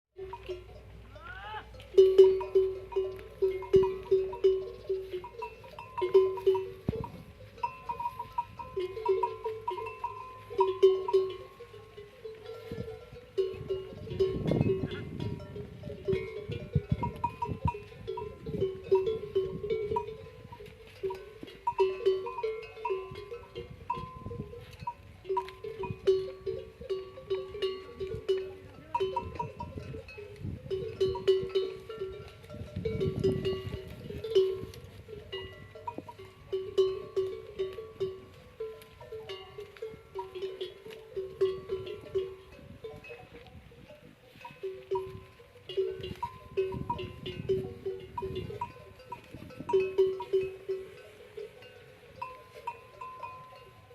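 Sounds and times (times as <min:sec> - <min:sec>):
camel bells clanking: 0:00.2 - 0:53.9.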